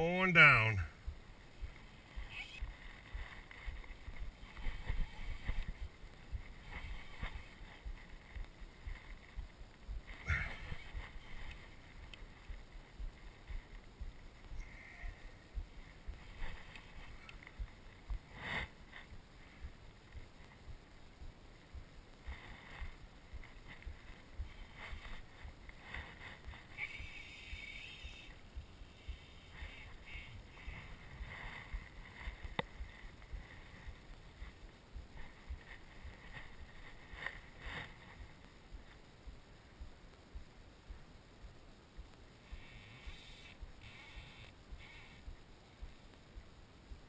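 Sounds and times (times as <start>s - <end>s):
wind rumbling on microphone: 0.8s - 47.0s.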